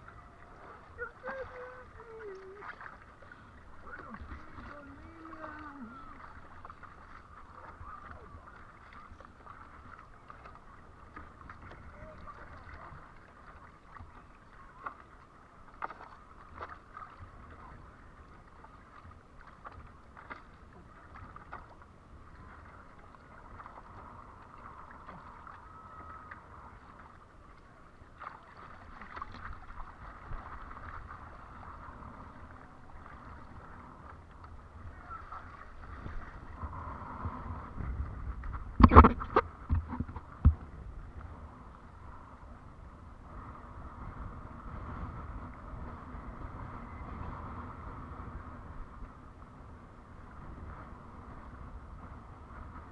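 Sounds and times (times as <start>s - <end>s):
water splashes and slaps: 0.0s - 42.5s
rush of water and wind: 0.0s - 52.9s.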